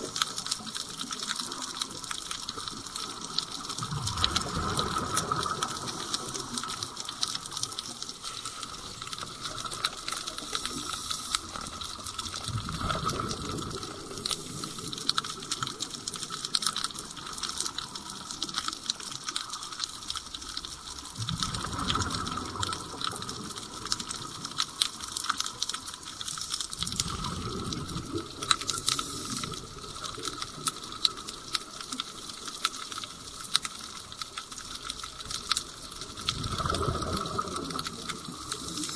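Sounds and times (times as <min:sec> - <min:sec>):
crackle of fine clicks: 0:00.0 - 0:38.9
underwater bubbles rushing: 0:00.0 - 0:38.9.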